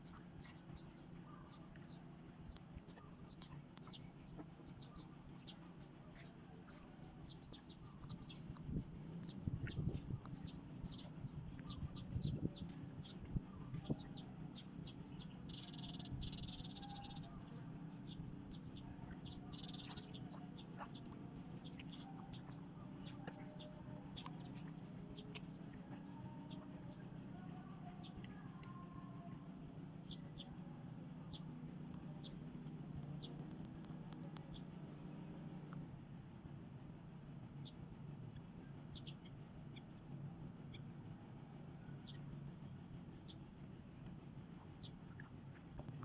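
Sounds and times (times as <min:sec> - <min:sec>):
low steady hum: 0:00.0 - 0:46.0
small birds chirping: 0:00.0 - 0:46.0.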